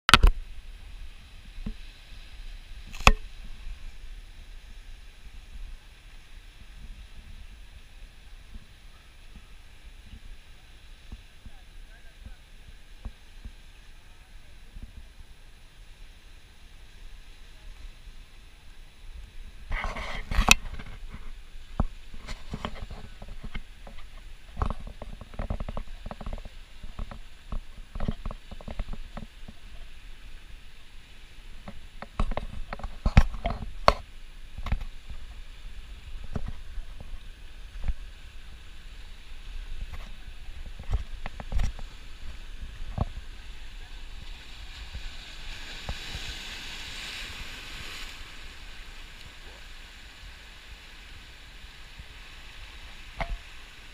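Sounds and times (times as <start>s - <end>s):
surf washing over rocks: 0.1s - 53.9s.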